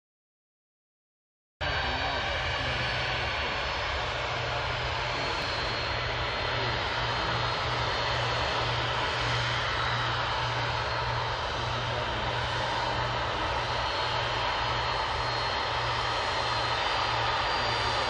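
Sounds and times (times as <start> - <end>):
jet engines taxiing: 1.6 - 18.0.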